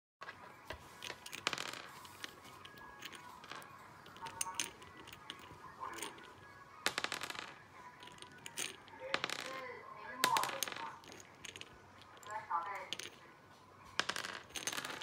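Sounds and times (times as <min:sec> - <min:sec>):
small bottles clicking and clinking: 0:01.0 - 0:13.3, 0:14.0 - 0:15.0.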